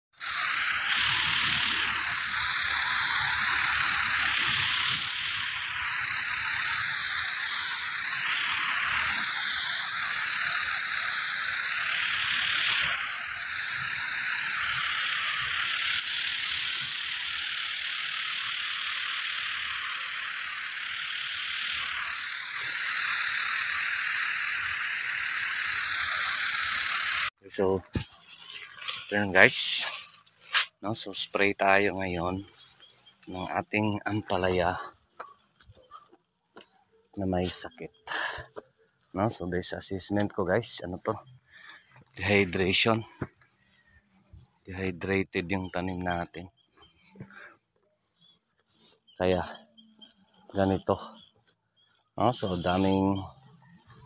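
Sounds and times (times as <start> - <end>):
sprayer nozzle hissing: 0.1 - 54.0.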